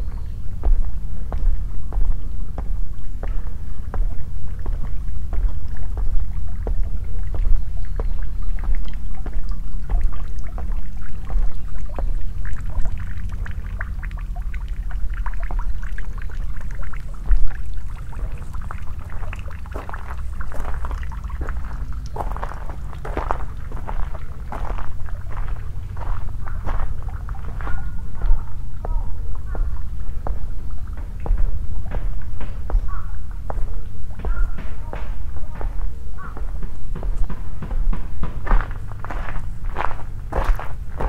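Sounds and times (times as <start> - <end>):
footsteps scuffing and crunching: 0.0 - 13.6, 14.8 - 41.0
wind rumble on microphone: 0.0 - 41.0.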